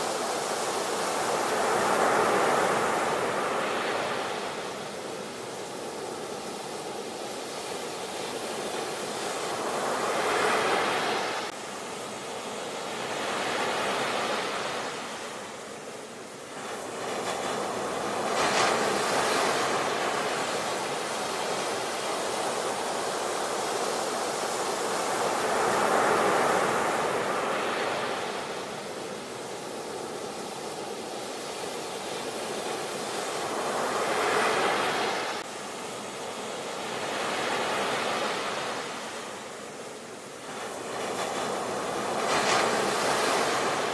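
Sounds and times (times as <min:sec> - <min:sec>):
waves breaking on a beach: 0:00.0 - 0:43.9.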